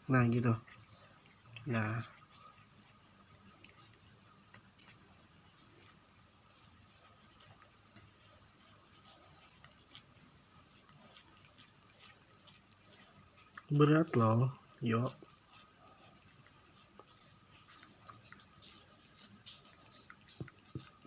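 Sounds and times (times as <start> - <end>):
cat licking and chewing food: 0.0 - 21.0.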